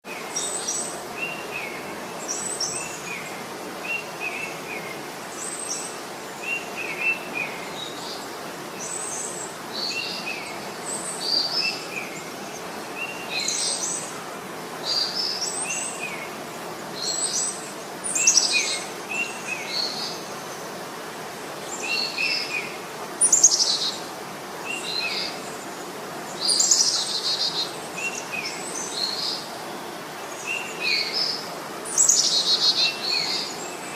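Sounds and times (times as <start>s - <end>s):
songbirds chirping: 0.0s - 33.9s
steady background hiss: 0.1s - 33.9s.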